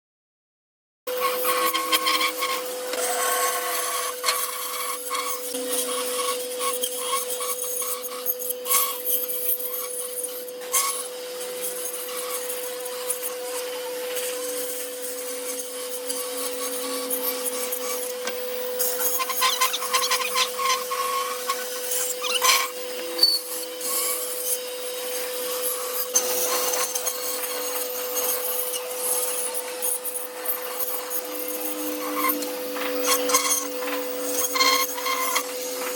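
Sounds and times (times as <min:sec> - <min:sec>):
band saw blade rasping through wood: 0:01.1 - 0:35.9
steady motor hum: 0:01.1 - 0:35.9.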